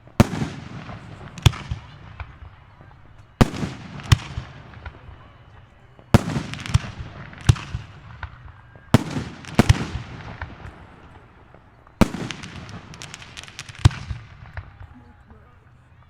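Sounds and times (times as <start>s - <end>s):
fireworks booming: 0.0s - 15.4s
fireworks crackle and echo: 0.0s - 16.0s.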